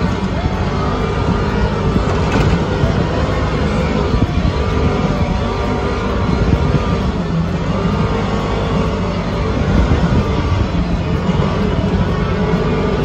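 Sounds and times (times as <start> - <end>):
car engine running: 0.0 - 13.0
tyre and road noise: 0.0 - 13.0.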